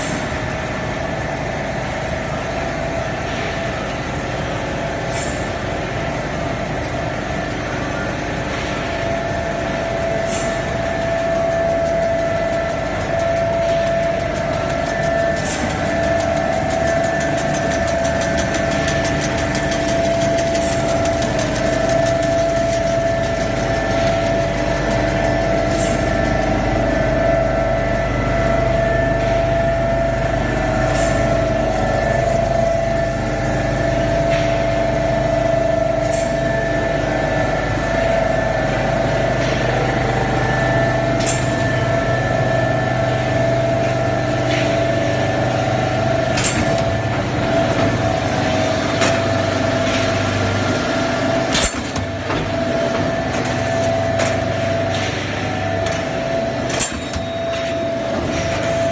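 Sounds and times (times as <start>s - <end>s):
pipe mill machine hum: 0.0s - 58.9s.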